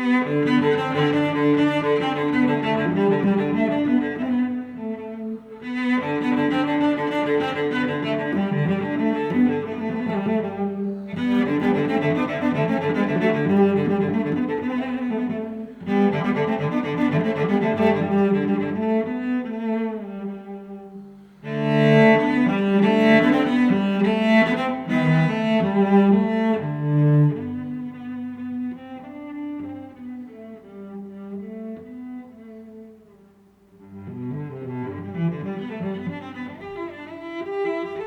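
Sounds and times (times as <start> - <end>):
bowed strings music: 0.0 - 38.0.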